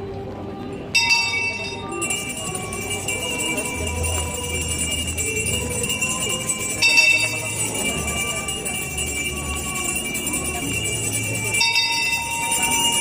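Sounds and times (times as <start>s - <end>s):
bells ringing and jingling: 0.8s - 13.0s.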